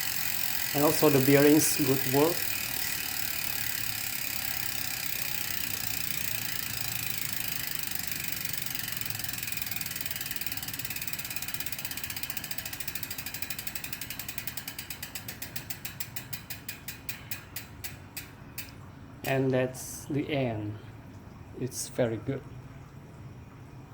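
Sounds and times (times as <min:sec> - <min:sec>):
bicycle freehub ratcheting clicks: 0:00.0 - 0:19.4.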